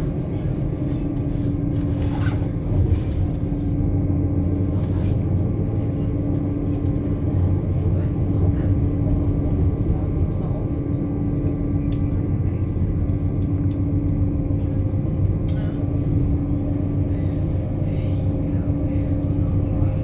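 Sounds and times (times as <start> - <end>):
constant hum: 0.0 - 20.0
train rumbling: 0.0 - 20.0.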